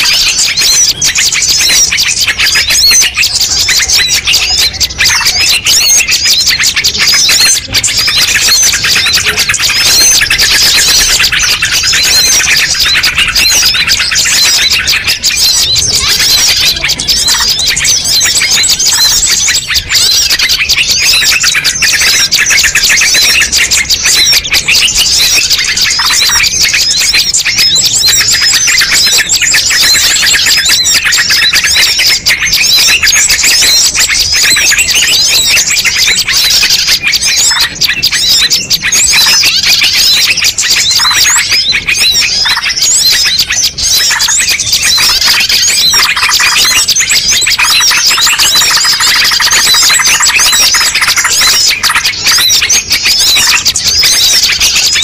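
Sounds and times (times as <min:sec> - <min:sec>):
songbirds chirping and twittering: 0:00.0 - 0:55.0.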